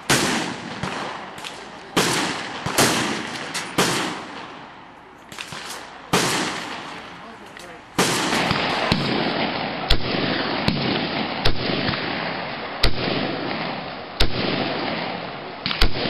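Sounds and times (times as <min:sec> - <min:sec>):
rifle firing single shots: 0:00.0 - 0:16.0.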